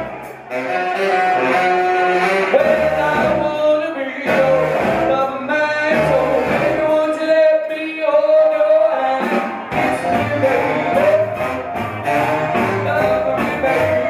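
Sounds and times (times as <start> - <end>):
band music: 0.0 - 14.0
person singing long notes: 0.0 - 14.0.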